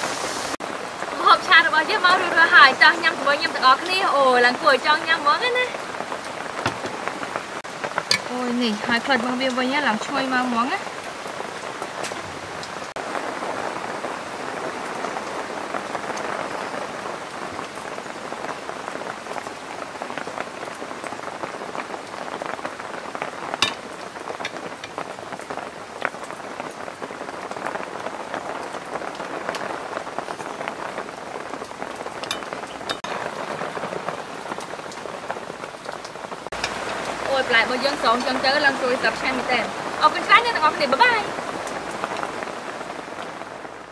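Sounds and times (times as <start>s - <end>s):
rain-like pattering hiss: 0.0s - 43.9s.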